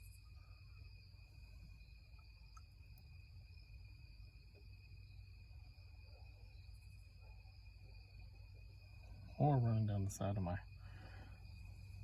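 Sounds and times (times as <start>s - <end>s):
faint high-pitched hum: 0.0s - 12.0s
low background rumble: 0.0s - 12.0s.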